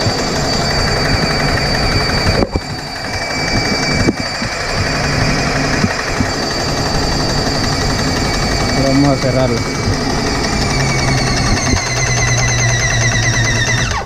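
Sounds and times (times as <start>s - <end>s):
paint sprayer running with whine: 0.0s - 14.0s.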